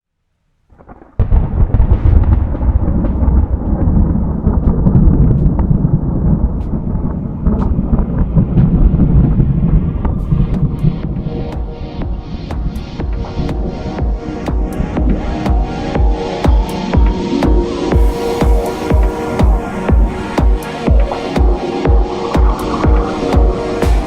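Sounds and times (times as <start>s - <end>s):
wind buffeting microphone: 1.2s - 24.0s.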